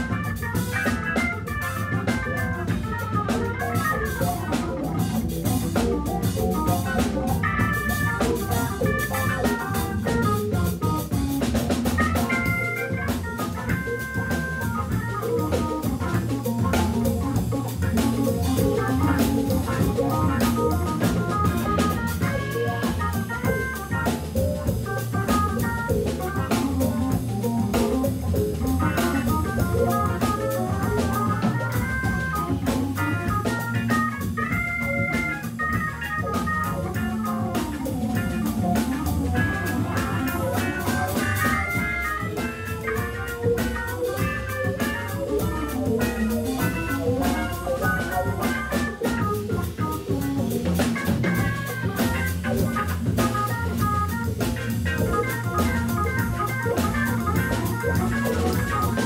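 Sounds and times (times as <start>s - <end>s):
drum kit steady beat: 0.0s - 59.0s
electric guitar: 0.0s - 59.0s
organ through rotating speaker: 0.0s - 59.0s.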